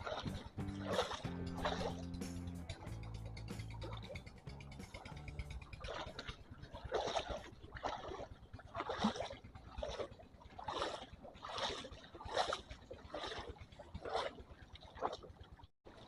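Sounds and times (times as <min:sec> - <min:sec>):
footsteps splashing in water: 0:00.0 - 0:02.9, 0:03.7 - 0:16.0.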